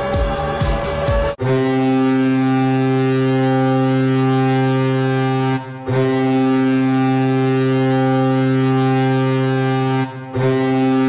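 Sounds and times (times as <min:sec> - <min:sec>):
goal horn blast: 0:00.0 - 0:11.0.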